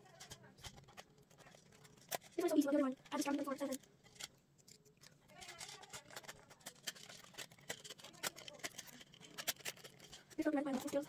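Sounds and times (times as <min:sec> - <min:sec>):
plastic toy pieces clicking: 0:00.0 - 0:11.0.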